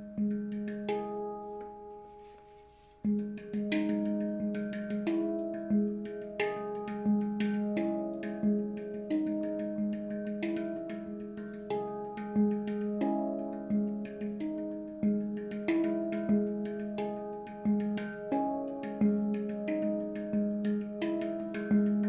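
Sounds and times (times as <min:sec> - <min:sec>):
handpan notes ringing: 0:00.0 - 0:22.0.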